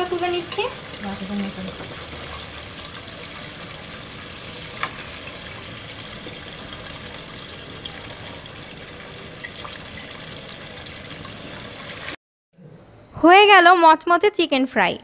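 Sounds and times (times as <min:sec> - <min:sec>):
chicken deep-frying in oil: 0:00.0 - 0:12.2.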